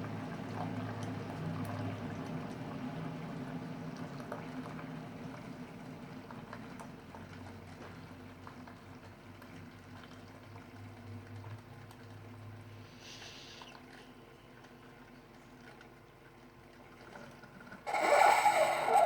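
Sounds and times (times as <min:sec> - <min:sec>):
coffee brewer bubbling and gurgling: 0:00.0 - 0:19.0.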